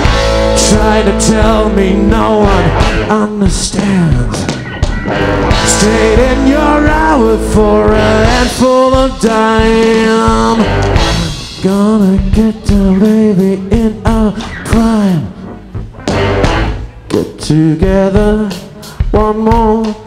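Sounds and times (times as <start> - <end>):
person singing: 0.0 - 4.5, 5.5 - 15.5, 17.1 - 20.0
live rock band playing: 0.0 - 20.0.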